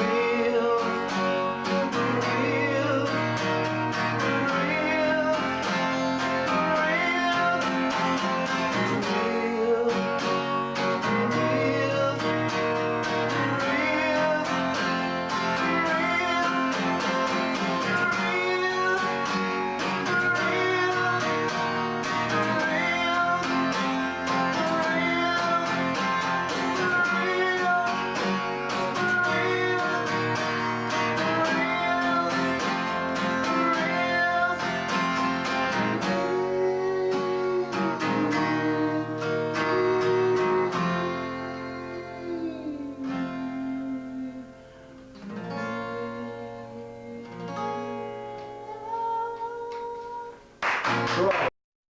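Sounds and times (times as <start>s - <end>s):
acoustic guitar strumming: 0.0s - 51.5s.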